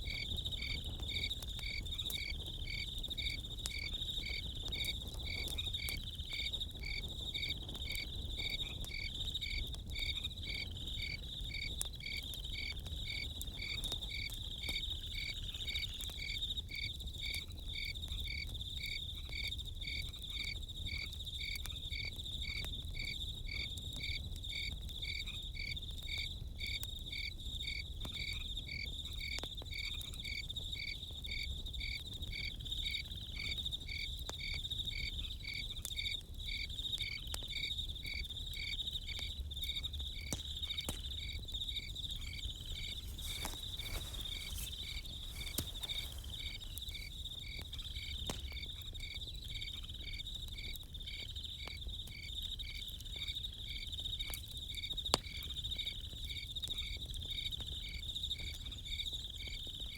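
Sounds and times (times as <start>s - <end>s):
campfire crackling: 0.0s - 56.2s
crickets chirping: 0.0s - 59.9s.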